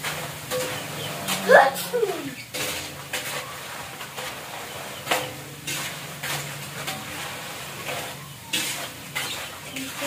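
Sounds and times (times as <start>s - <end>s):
crackers frying in hot oil: 0.0s - 10.0s
metal spatula scraping a wok: 0.0s - 10.0s.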